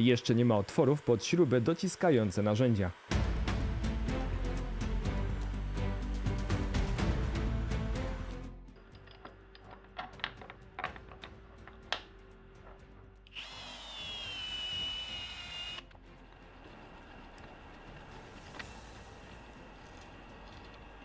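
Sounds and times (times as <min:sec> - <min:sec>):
milling machine drill whine: 0:00.0 - 0:09.6, 0:13.3 - 0:21.0.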